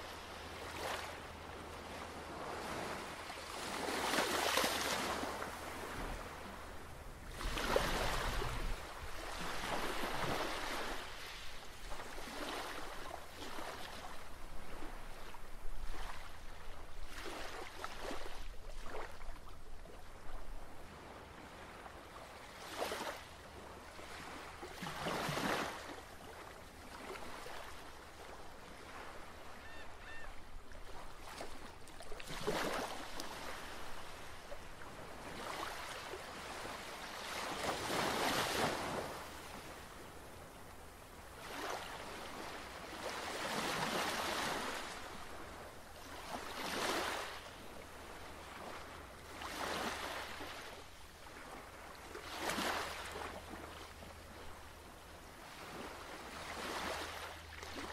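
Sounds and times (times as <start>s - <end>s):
small waves washing in: 0.0s - 29.5s, 30.6s - 57.9s.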